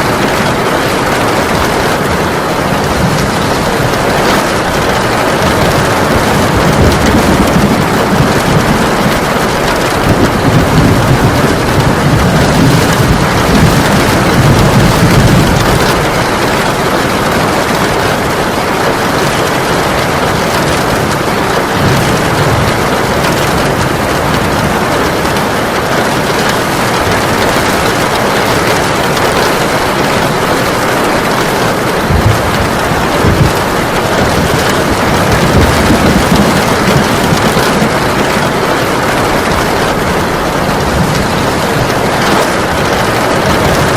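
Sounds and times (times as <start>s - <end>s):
heavy rain falling: 0.0s - 43.9s
low rumble of thunder: 0.0s - 43.9s.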